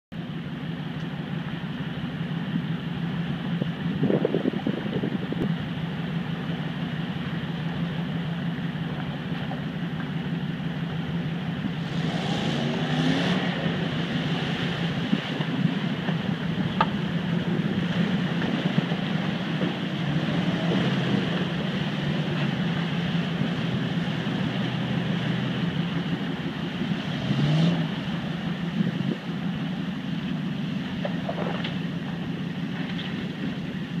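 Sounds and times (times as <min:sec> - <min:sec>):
car engine at low revs: 0:00.1 - 0:34.0
water splashing around wheels: 0:00.2 - 0:34.0.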